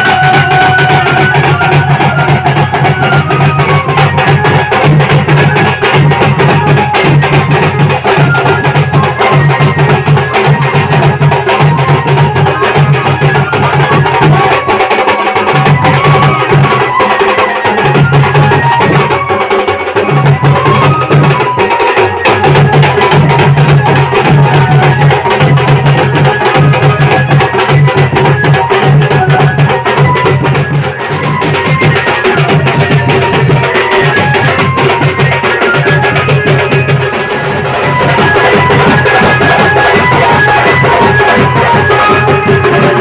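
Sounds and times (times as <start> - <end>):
fast dense drumming: 0.0 - 43.0
folk band music: 0.0 - 43.0.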